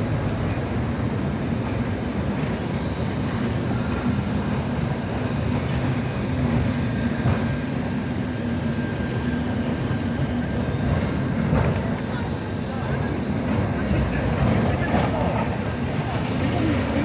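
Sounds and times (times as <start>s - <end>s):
tram rumbling on rails: 0.0s - 17.0s
wheels clicking on track: 0.0s - 17.0s.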